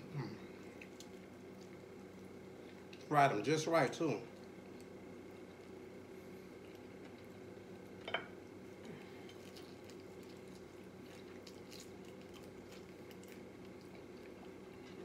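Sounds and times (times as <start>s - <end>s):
steady low hum: 0.0s - 15.0s
crunching and chewing food: 0.3s - 3.1s, 4.2s - 15.0s.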